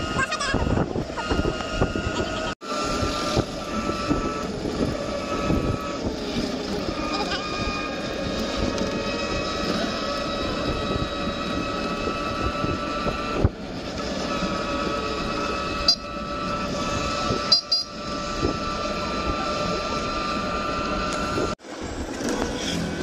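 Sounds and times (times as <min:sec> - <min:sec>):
road rumble: 0:00.0 - 0:23.0
vehicle whine: 0:00.0 - 0:23.0.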